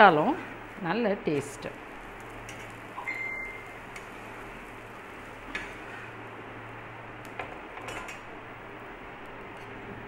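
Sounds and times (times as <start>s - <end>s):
low hum and hiss: 0.0s - 10.0s.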